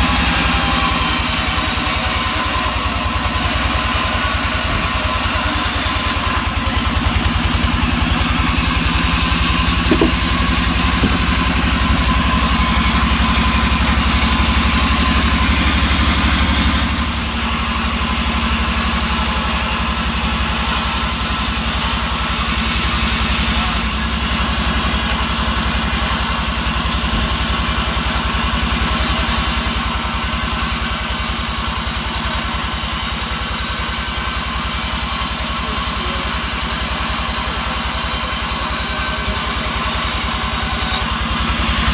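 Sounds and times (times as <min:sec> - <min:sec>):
sawmill engine running: 0:00.0 - 0:41.9
saw cutting log hiss: 0:07.4 - 0:41.9.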